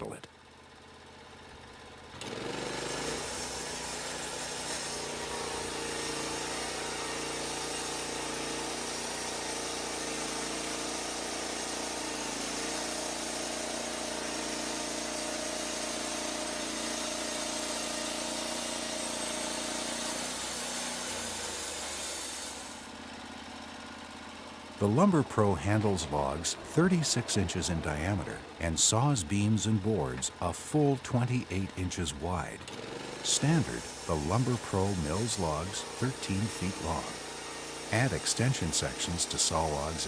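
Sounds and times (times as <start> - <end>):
band sawmill running: 0.5 - 40.0.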